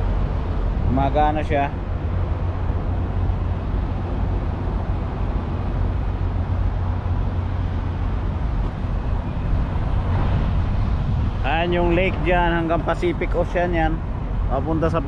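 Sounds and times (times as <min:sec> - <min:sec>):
diesel truck engine rumbling: 0:00.0 - 0:15.0
road noise: 0:00.0 - 0:15.0.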